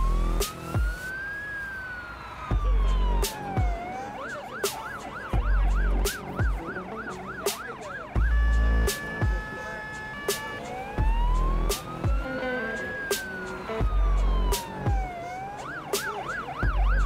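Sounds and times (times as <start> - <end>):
electronic music with heavy bass: 0.0 - 1.2, 2.5 - 17.0
fire engine siren: 0.0 - 17.0.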